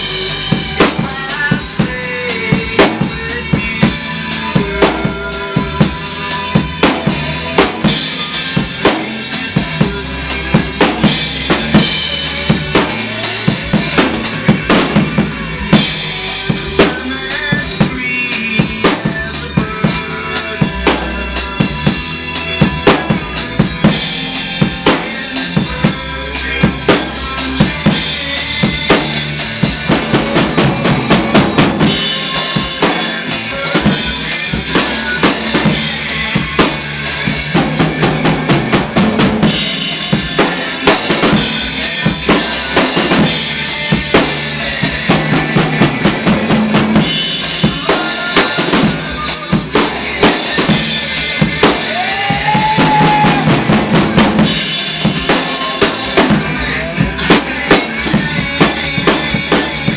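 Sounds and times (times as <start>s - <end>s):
drum kit fast hits: 0.0s - 59.9s
rock music: 0.0s - 59.9s.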